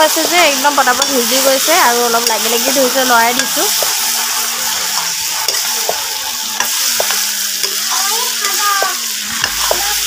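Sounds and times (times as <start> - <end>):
chicken sizzling in a pan: 0.0 - 10.0
spatula scraping a pan: 0.0 - 10.0.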